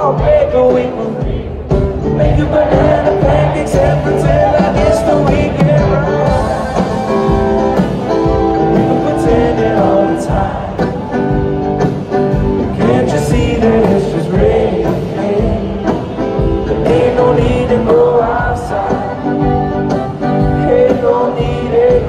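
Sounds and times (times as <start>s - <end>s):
person singing: 0.0s - 11.8s, 12.5s - 22.0s
live acoustic pop band: 0.0s - 22.0s.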